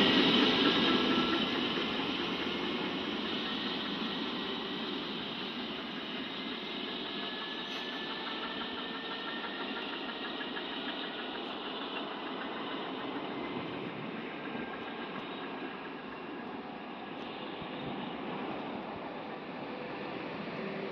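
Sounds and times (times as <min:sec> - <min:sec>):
faint high whine: 0:00.0 - 0:20.9
train rumbling hiss: 0:00.0 - 0:20.9.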